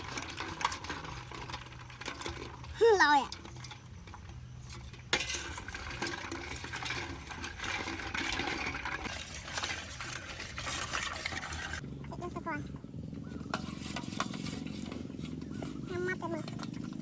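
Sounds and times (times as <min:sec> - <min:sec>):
food being stirred and scraped: 0:00.0 - 0:11.8, 0:13.2 - 0:17.0.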